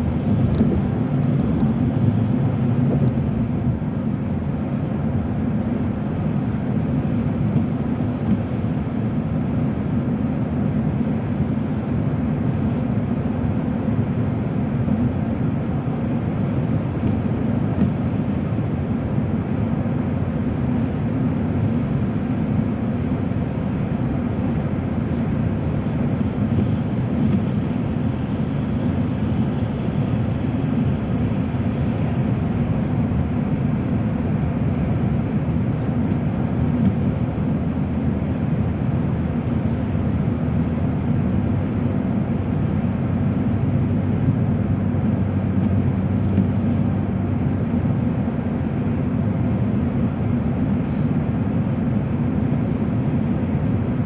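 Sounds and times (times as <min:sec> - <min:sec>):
car cabin tyre and engine drone: 0:00.0 - 0:54.0.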